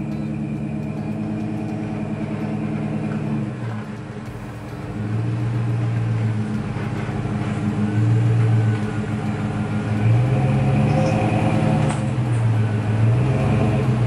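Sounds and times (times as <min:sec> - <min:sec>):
pickup truck engine reversing: 0:00.0 - 0:14.0.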